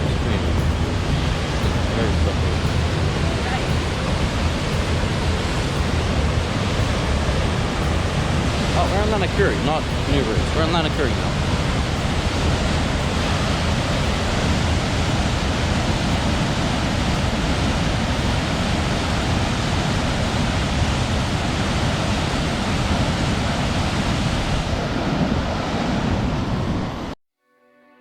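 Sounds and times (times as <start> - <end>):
floodwater rushing: 0.0 - 27.0
wind buffeting microphone: 0.0 - 27.2.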